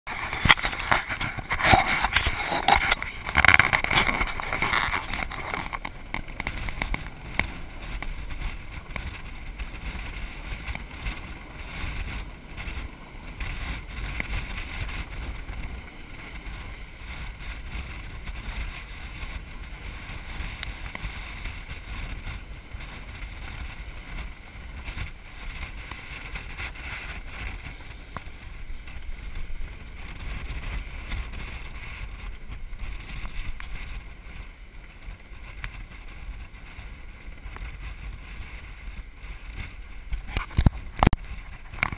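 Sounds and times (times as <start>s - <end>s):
water rushing along hull: 0.1s - 41.9s
wind buffeting microphone: 0.1s - 41.9s.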